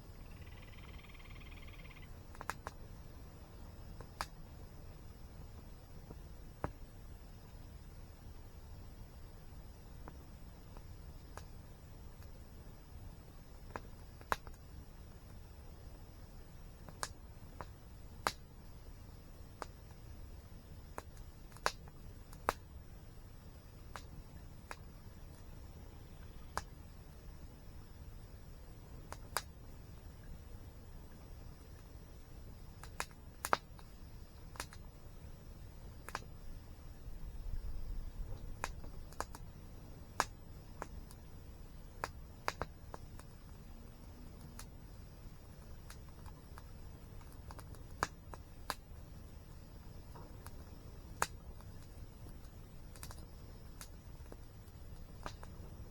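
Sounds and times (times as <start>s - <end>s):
low background rumble: 0.0s - 55.9s
wood fire crackling and popping: 2.1s - 7.1s, 8.5s - 55.9s.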